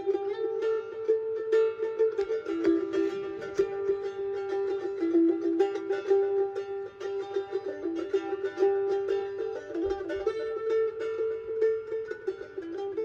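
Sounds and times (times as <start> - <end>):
plucked string instrument playing: 0.0 - 13.0.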